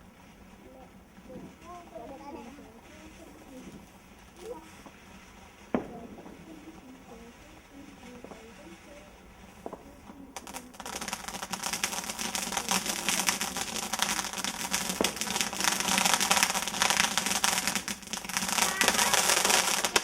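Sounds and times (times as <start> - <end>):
firework crackling: 0.0 - 20.0.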